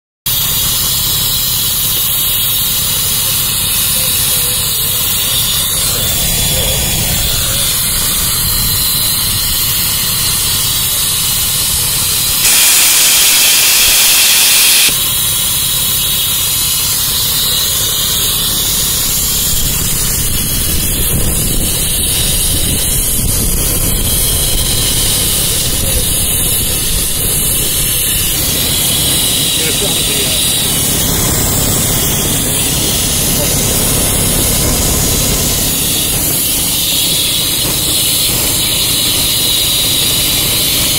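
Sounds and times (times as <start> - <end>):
steam hissing from machinery: 0.3 - 40.9
low machinery rumble: 0.4 - 12.4, 16.4 - 40.9.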